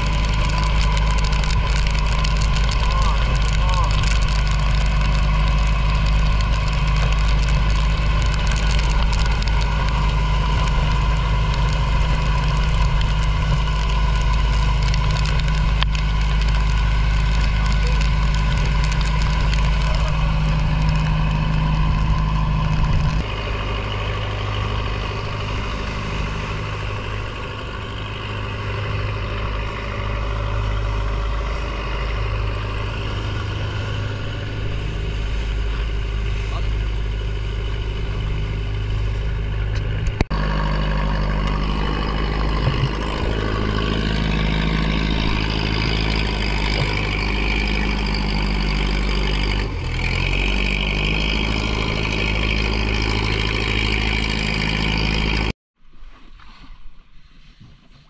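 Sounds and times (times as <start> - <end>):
boat motor running: 0.0 - 55.5.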